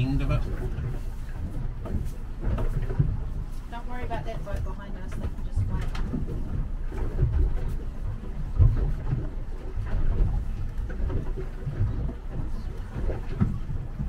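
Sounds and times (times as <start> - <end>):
motorboat engine rumble: 0.0 - 14.0
water against hull: 0.0 - 14.0.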